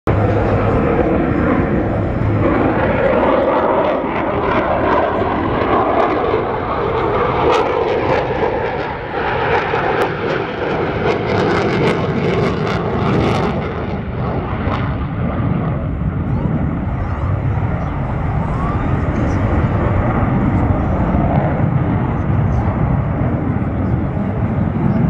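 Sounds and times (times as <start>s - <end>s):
jet fighter flying by: 0.1s - 25.0s.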